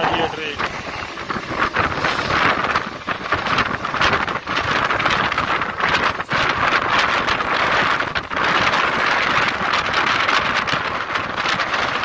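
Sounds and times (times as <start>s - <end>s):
train wheels rumbling on track: 0.0s - 12.0s
wind rushing over microphone: 0.0s - 12.0s.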